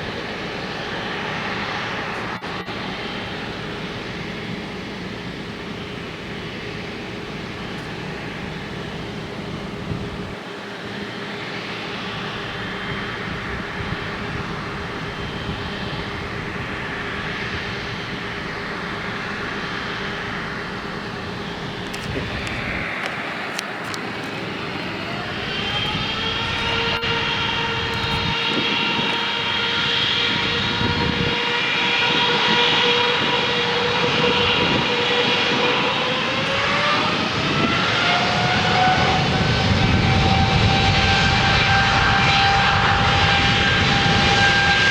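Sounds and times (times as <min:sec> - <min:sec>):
high whine rising in pitch: 0:00.0 - 0:44.9
jet engines running: 0:00.0 - 0:44.9.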